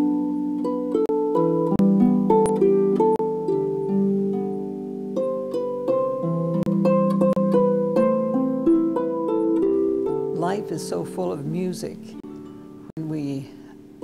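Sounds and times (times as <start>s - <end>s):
harp music: 0.0s - 14.0s.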